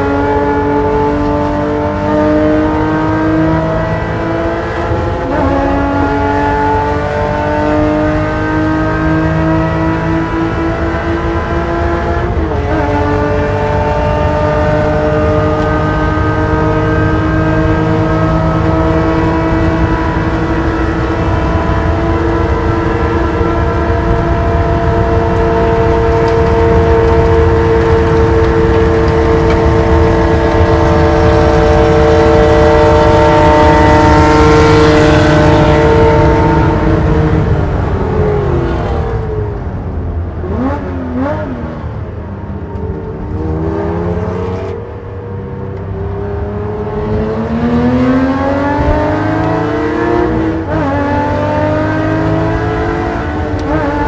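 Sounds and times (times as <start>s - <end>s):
race car engine at full throttle: 0.0s - 54.0s.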